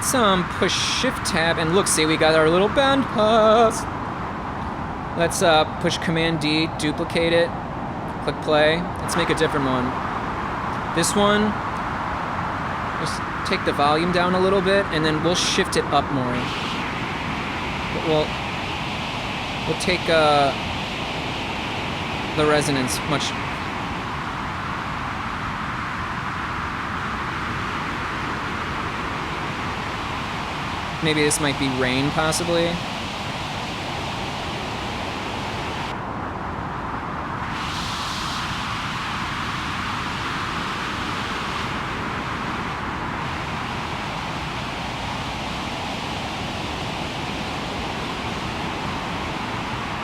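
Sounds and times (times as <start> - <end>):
synthesized hiss like rain: 0.0 - 50.0.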